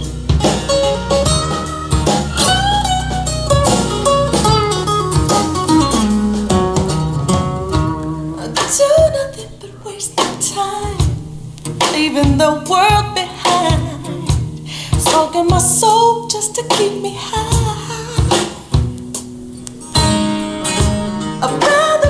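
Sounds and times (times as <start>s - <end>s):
song with singing and guitar: 0.0s - 22.0s.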